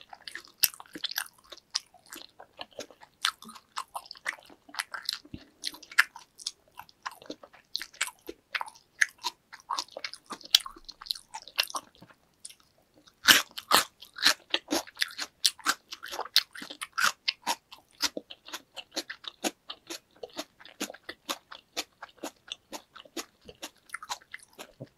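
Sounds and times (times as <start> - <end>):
chewing with wet mouth clicks: 0.0 - 24.9.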